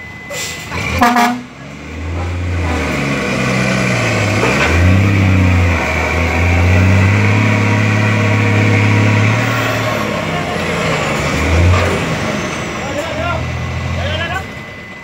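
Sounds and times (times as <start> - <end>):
diesel truck engine revving: 0.4 - 14.7.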